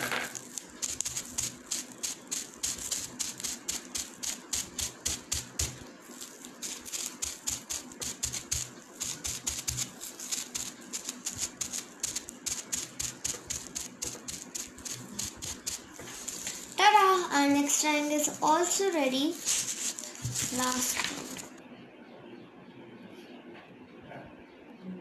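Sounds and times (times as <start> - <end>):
bubble wrap dabbing on paper: 0.0 - 21.6.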